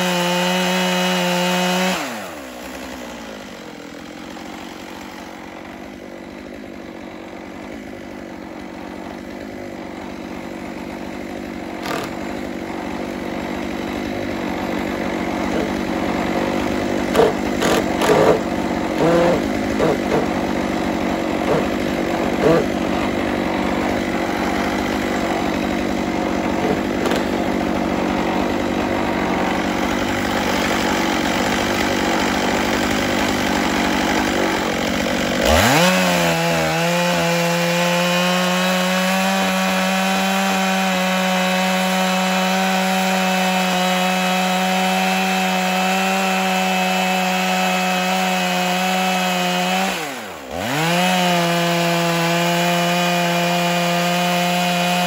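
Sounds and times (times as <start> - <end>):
chainsaw ripping through log: 0.0 - 55.0.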